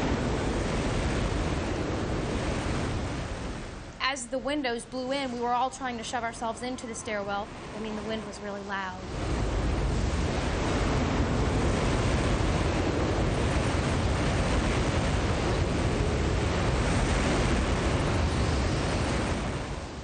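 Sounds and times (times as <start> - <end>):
strong wind rushing: 0.0 - 20.0.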